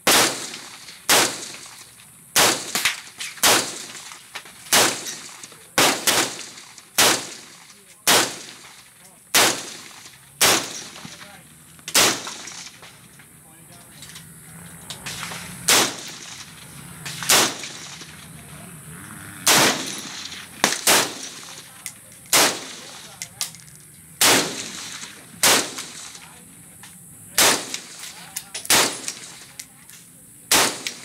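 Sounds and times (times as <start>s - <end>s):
rifle shots: 0.0s - 13.0s, 15.0s - 18.4s, 19.4s - 23.3s, 24.2s - 26.3s, 27.3s - 29.6s, 30.5s - 31.0s.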